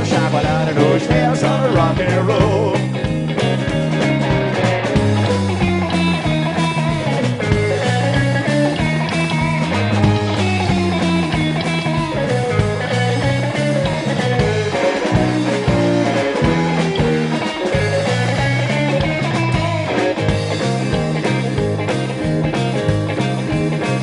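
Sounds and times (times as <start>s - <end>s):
driving bass line: 0.0s - 24.0s
rock and roll guitar lead: 0.0s - 24.0s
steady drum beat: 0.0s - 24.0s.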